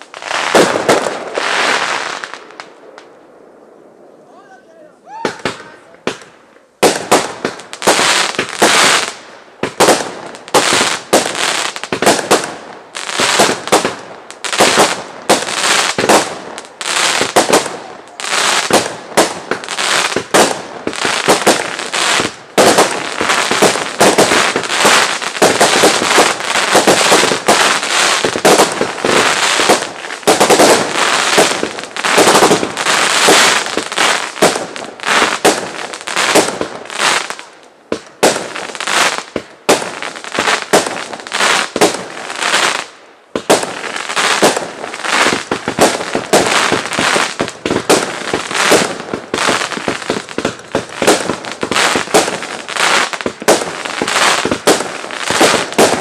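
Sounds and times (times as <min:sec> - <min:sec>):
fireworks bangs and crackling: 0:00.0 - 0:04.1, 0:05.1 - 0:56.0.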